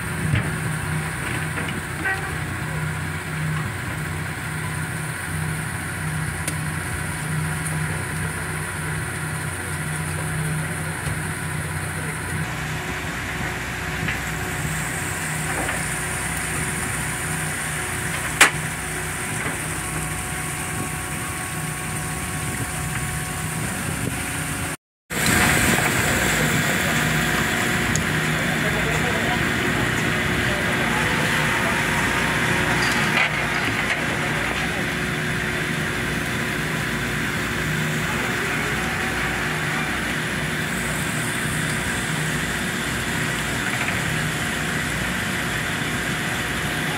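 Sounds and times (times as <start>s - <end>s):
low engine hum: 0.0s - 46.9s.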